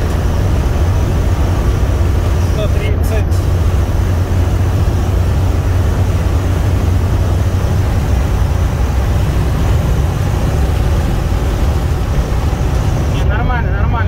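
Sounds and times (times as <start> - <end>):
diesel engine drone: 0.0 - 14.0
road and wind noise: 0.0 - 14.0.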